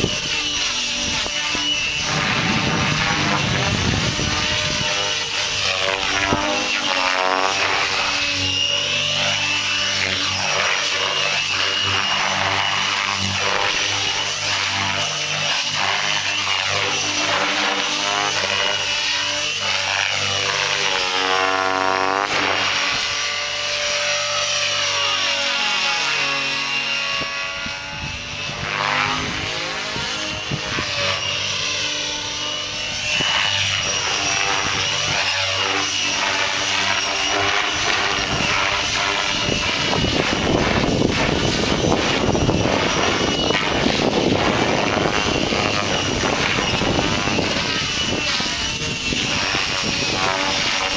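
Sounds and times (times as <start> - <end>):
rc helicopter motor whine: 0.0 - 50.9
rotor blades whooshing: 0.0 - 50.9.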